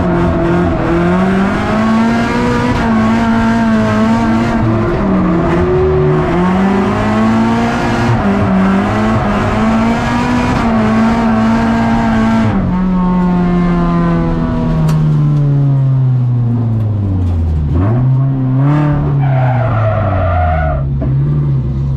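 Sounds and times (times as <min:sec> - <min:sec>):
car engine at high revs: 0:00.0 - 0:21.9.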